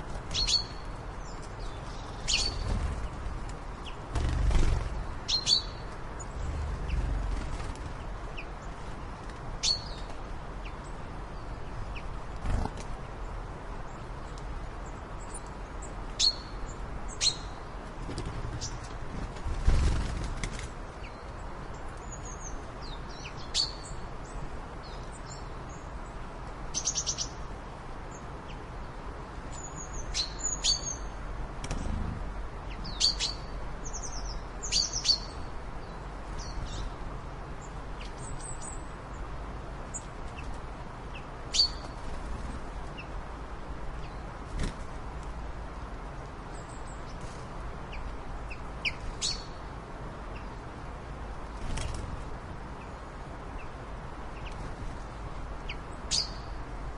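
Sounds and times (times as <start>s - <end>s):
small birds chirping: 0.0s - 27.5s, 28.1s - 43.2s, 46.5s - 56.7s
low background noise: 0.0s - 56.9s.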